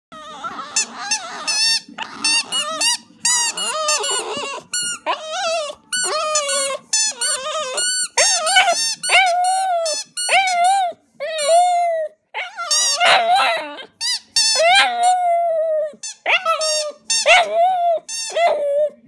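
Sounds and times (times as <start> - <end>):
squeaker toy squawking: 0.2 - 18.9.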